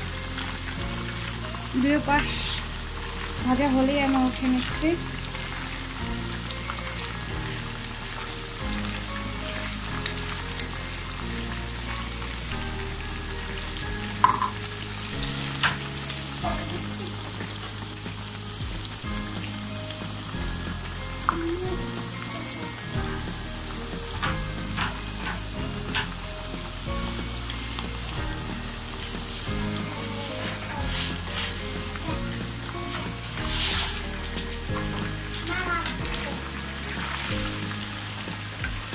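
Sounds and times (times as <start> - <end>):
deep-frying sizzle in hot oil: 0.0 - 38.9.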